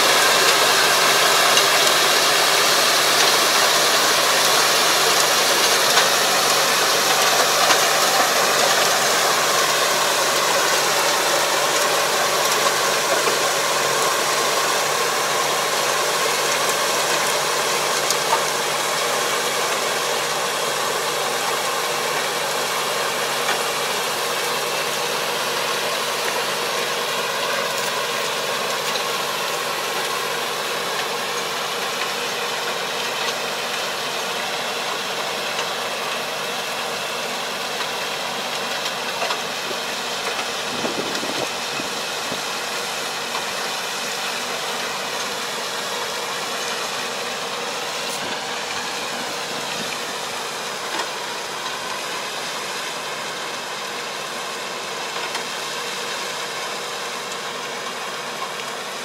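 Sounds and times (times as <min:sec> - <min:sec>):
diesel tractor running under load: 0:00.0 - 0:59.0.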